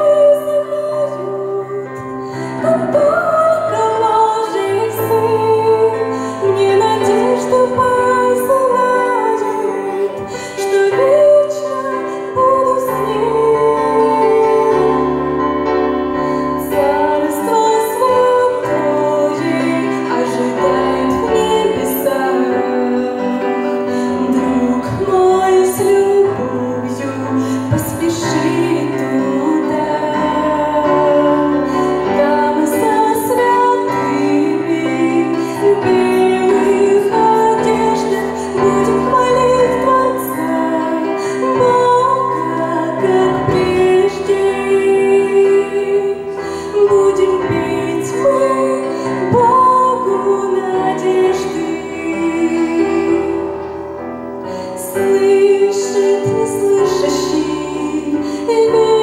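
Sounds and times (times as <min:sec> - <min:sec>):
woman singing worship song: 0:00.0 - 0:59.0.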